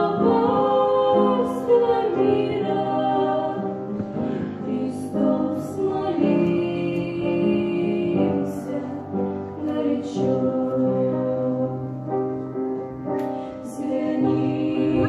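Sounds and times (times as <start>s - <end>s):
person singing a religious song: 0.0s - 3.8s, 4.6s - 12.1s, 13.6s - 15.0s
musical accompaniment: 0.0s - 15.0s.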